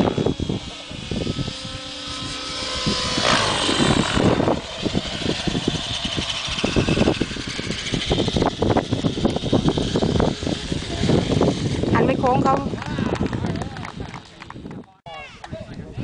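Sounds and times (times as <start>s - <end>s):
rotor blades swishing: 0.0s - 14.8s
model helicopter engine whine: 0.0s - 15.4s
wind buffeting microphone: 0.0s - 16.0s.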